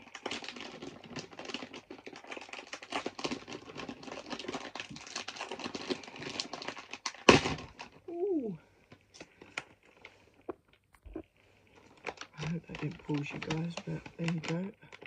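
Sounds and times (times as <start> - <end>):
plastic packet crinkling: 0.0 - 8.1, 8.9 - 15.0.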